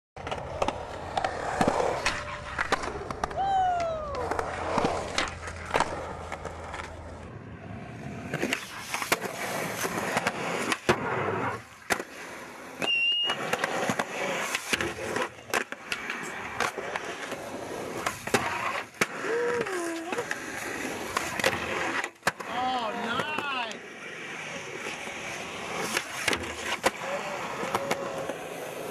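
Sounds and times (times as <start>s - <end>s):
skateboard clacks: 0.2s - 7.3s, 8.3s - 23.8s, 24.7s - 28.9s
skateboard wheels rolling on concrete: 0.2s - 28.9s.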